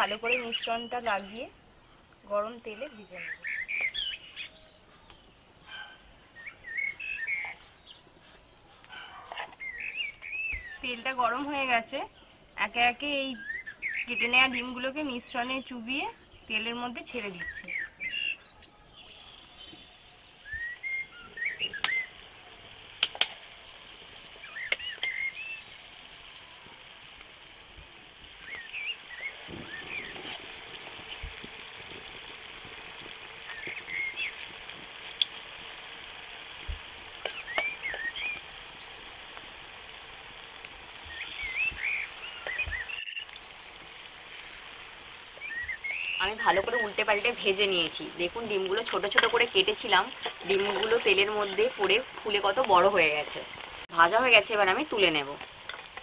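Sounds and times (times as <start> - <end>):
food deep-frying in oil: 0.0 - 1.5, 2.3 - 5.0, 12.7 - 56.0
birds chirping: 0.0 - 23.0, 23.6 - 26.9, 28.3 - 55.4.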